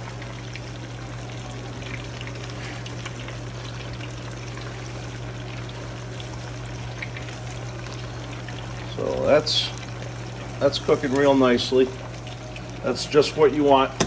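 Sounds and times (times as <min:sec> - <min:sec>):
wings deep-frying in oil: 0:00.0 - 0:14.0.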